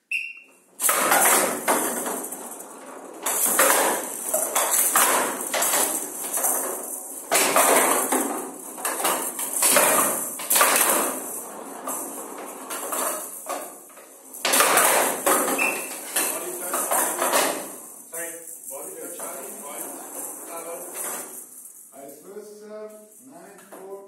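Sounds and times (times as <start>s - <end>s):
ball rattling and rolling: 0.6s - 21.9s.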